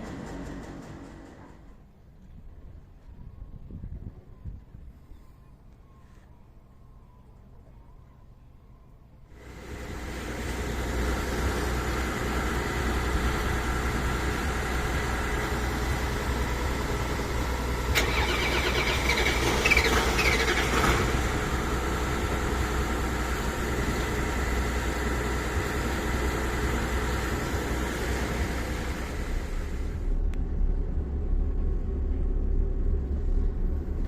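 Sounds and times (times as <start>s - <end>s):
engine humming: 0.0s - 4.9s, 5.6s - 34.0s.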